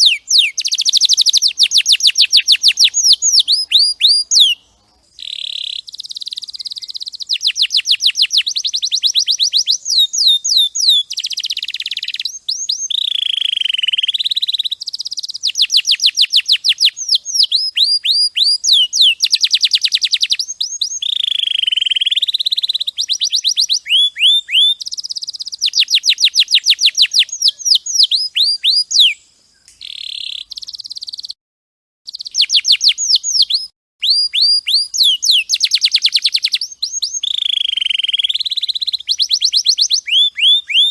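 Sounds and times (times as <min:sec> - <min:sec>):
canary singing trills: 0:00.0 - 0:31.4, 0:32.1 - 0:40.9.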